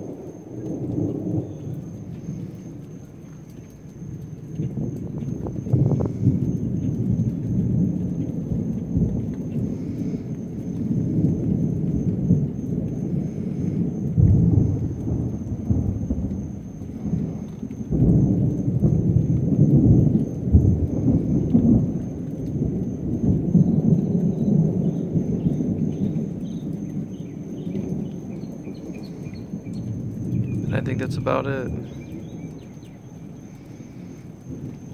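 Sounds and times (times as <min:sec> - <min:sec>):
thunder rumbling: 0:00.0 - 0:34.9.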